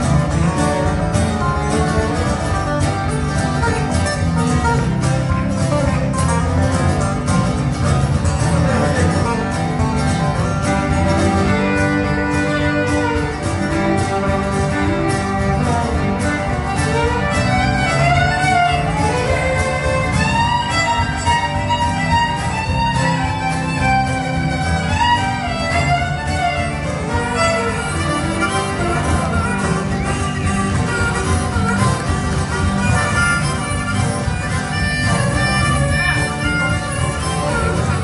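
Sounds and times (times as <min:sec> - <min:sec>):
sliding lead melody: 0:00.0 - 0:38.0
strummed acoustic guitar: 0:00.0 - 0:38.0.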